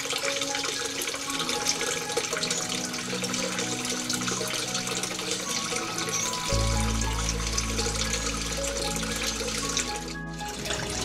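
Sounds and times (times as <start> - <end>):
running water: 0.0 - 11.0
soft slow background music: 0.0 - 11.0.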